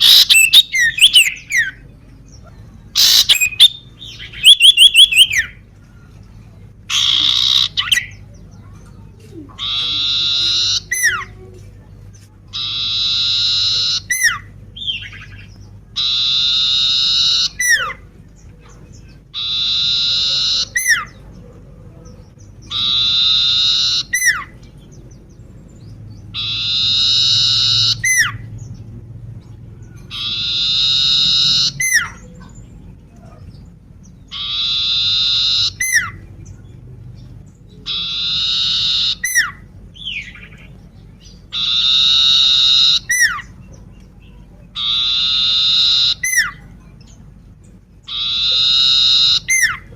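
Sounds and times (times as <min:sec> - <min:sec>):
bird calling: 0:00.0 - 0:05.7, 0:06.6 - 0:11.6, 0:12.5 - 0:49.9.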